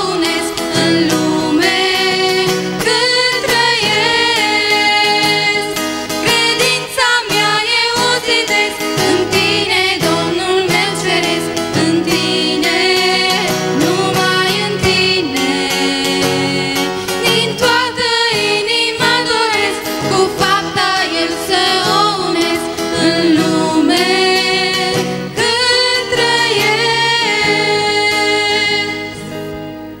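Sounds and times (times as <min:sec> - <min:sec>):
women singing a hymn in harmony: 0:00.0 - 0:29.5
strummed acoustic guitar: 0:00.0 - 0:30.0.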